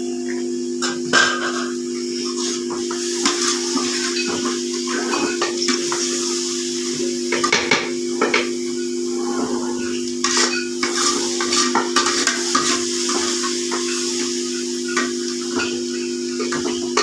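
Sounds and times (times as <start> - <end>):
leaves sizzling in oil: 0.0 - 17.0
steady hum: 0.0 - 17.0.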